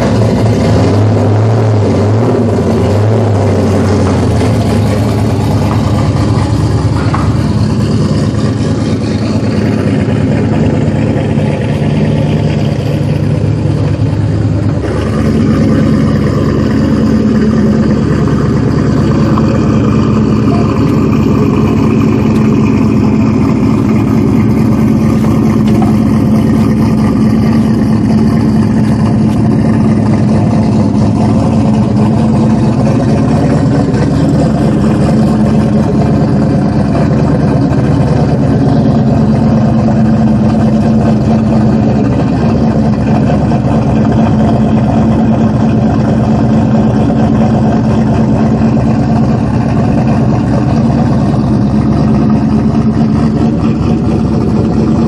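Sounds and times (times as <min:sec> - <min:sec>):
car engine idling loudly: 0:00.0 - 0:55.0.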